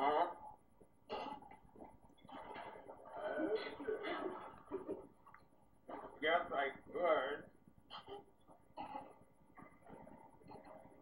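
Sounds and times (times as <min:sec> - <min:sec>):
faint television film sounds: 0:00.0 - 0:11.0.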